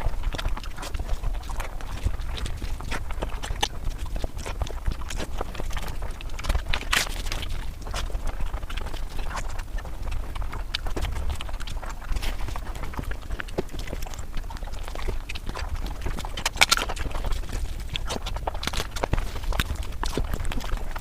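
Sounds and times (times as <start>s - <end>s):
lip smacks: 0.0s - 21.0s
person chewing with mouth clicks: 0.0s - 21.0s
steady low rumble: 0.0s - 21.0s.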